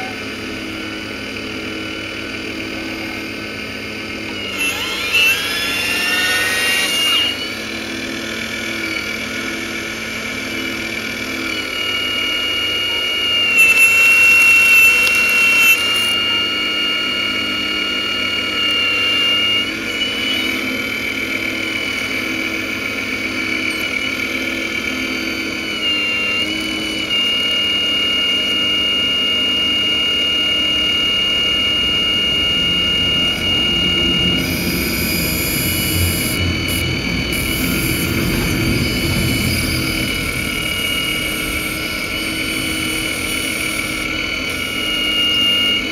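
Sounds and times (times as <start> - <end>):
model excavator motors whining: 0.0 - 45.9.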